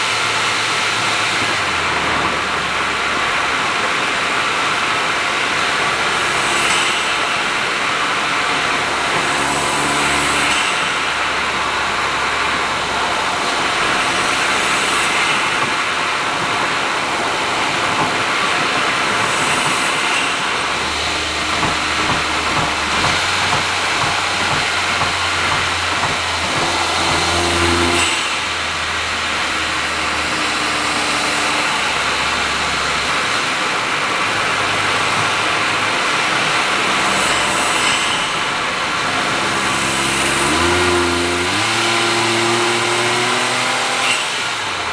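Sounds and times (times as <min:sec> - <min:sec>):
car engine drone: 0:00.0 - 0:44.9
tyre and road noise: 0:00.0 - 0:44.9.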